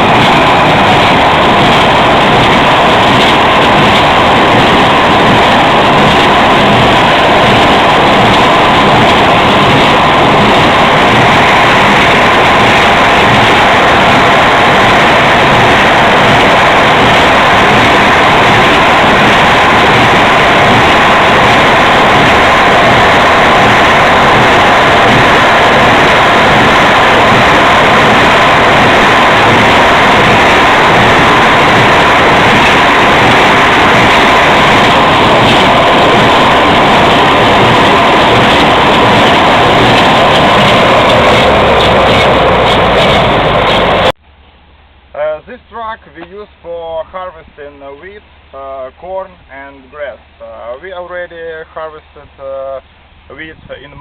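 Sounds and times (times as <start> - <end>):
heavy machine engine running: 0.0 - 44.2.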